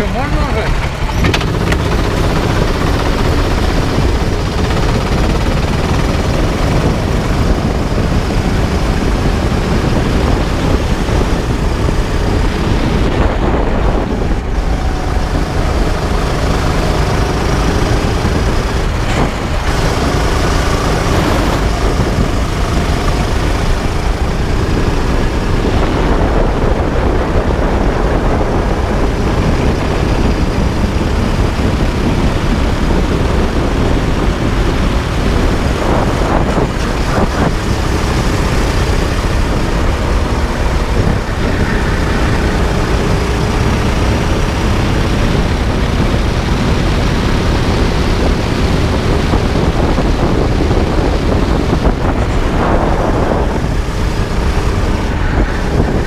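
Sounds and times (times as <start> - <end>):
heavy low rumble: 0.0 - 56.0
kart engine running: 0.0 - 56.0.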